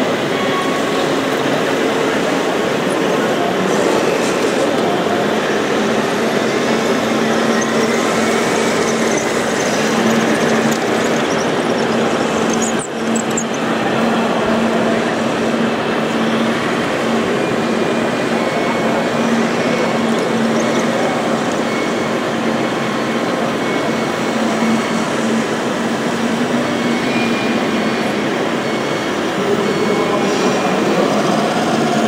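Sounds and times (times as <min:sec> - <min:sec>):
machine running with hum: 0:03.9 - 0:32.0.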